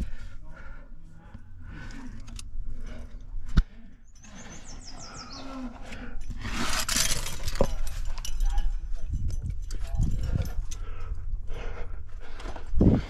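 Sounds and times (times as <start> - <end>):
climber breathing and grunting: 0.0 - 13.0.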